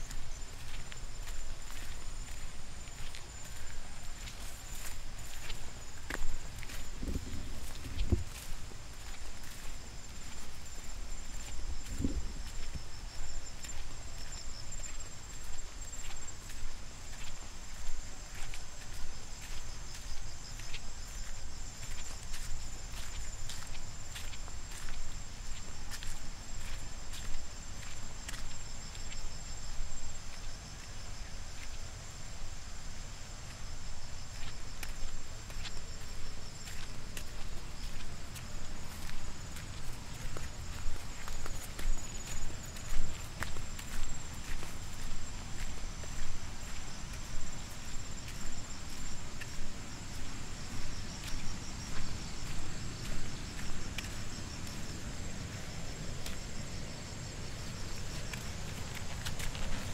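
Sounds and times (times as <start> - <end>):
footsteps on dirt path: 0.0 - 59.9
insects chirring: 0.0 - 59.9.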